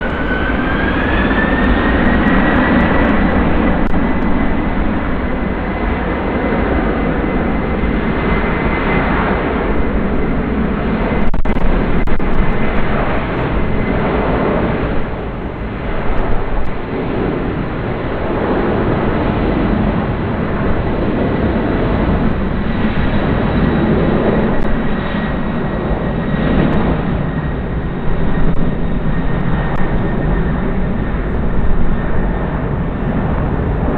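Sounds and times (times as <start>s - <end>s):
jet engines at takeoff power: 0.0s - 33.9s.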